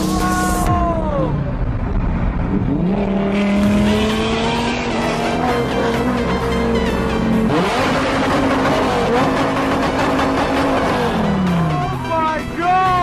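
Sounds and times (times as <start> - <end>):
engine note rising: 0.0 - 12.1
sports car engines revving: 1.2 - 12.1.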